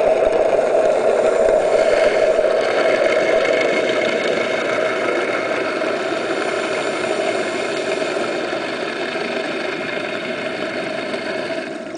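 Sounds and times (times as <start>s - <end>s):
even hiss: 0.0s - 11.9s
underwater mechanical drone: 0.0s - 11.9s.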